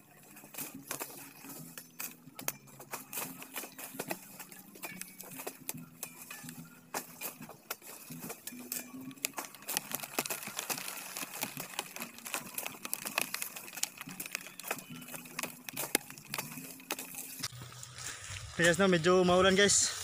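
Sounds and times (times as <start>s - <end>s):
dry leaves rustling: 0.0s - 20.0s.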